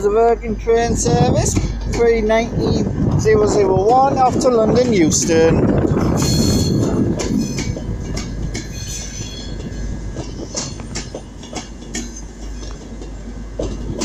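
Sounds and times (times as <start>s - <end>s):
train low rumble: 0.0s - 14.0s
train wheels clicking over rail joints: 0.7s - 14.0s.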